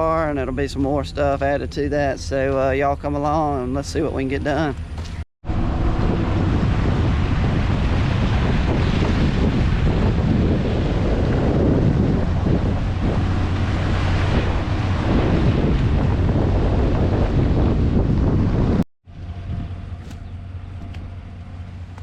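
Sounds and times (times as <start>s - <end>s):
vehicle engine drone: 0.0s - 22.0s
wind buffeting microphone: 0.0s - 22.0s.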